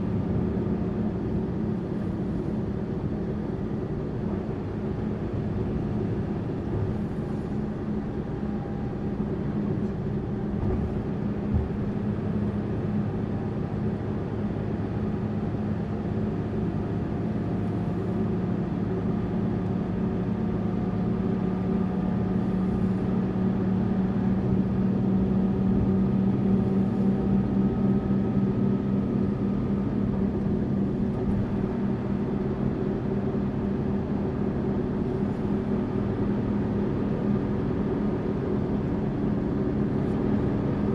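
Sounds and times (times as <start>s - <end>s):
bus engine drone: 0.0s - 40.9s
road noise: 0.0s - 40.9s.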